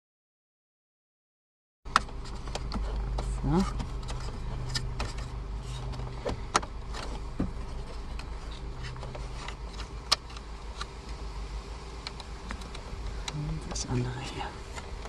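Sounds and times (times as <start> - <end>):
steady low hum: 1.9 - 15.0.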